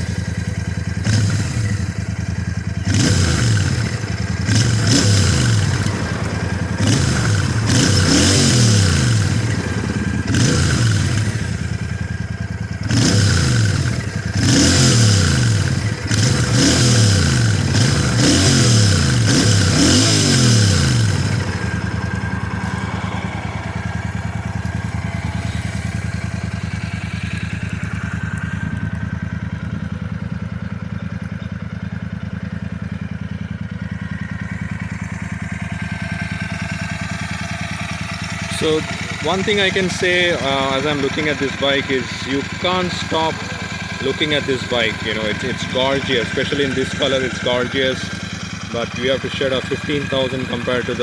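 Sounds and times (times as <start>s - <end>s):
motorcycle engine revving and idling: 0.0s - 51.0s.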